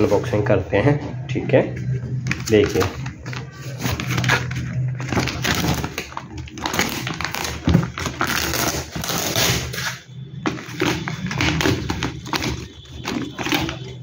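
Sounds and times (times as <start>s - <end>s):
cardboard scraping and rustling: 2.3s - 14.0s.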